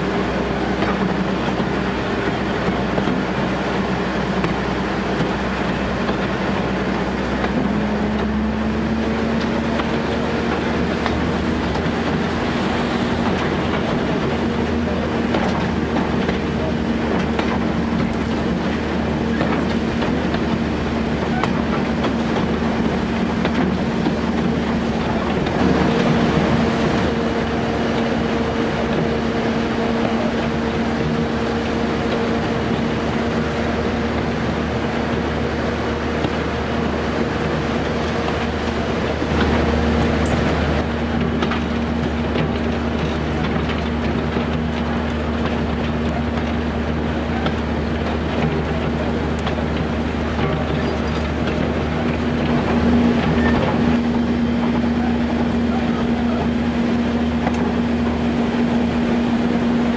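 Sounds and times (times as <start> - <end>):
diesel locomotive engine: 0.0 - 59.9
wheels rumbling on rails: 0.0 - 59.9.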